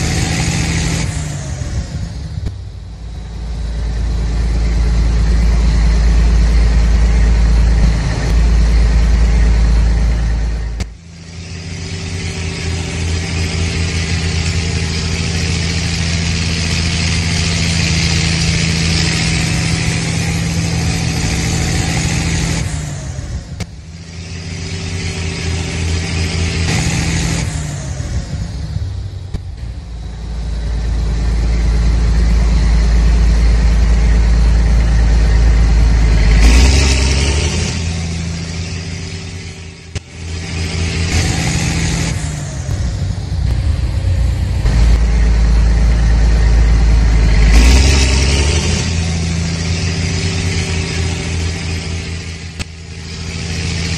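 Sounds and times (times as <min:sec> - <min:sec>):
tractor engine revving: 0:00.0 - 0:53.9.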